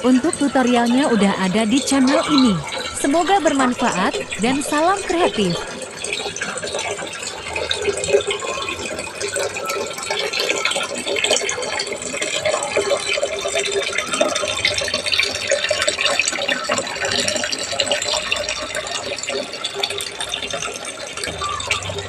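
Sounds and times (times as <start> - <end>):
aquarium waterfall trickling: 0.0 - 22.0.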